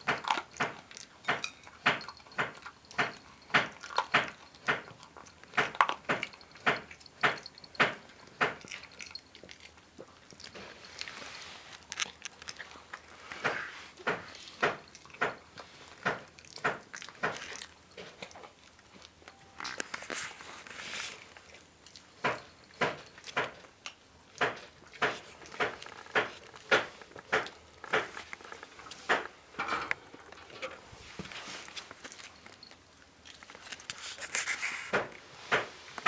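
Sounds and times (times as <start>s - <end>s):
dog chewing crunchy food: 0.0s - 36.0s.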